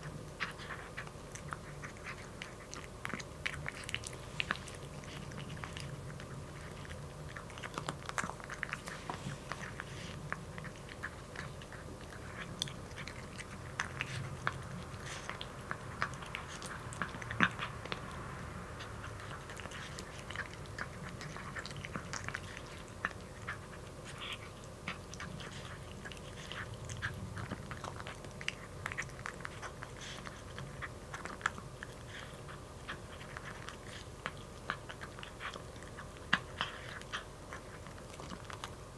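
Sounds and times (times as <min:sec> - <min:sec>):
kitten crunching dry kibble: 0:00.0 - 0:38.9.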